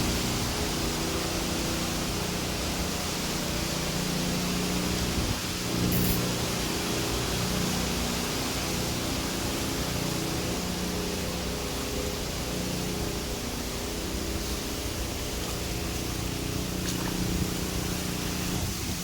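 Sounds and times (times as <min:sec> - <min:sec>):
car road noise hiss: 0:00.0 - 0:19.0
low engine hum: 0:00.0 - 0:19.0.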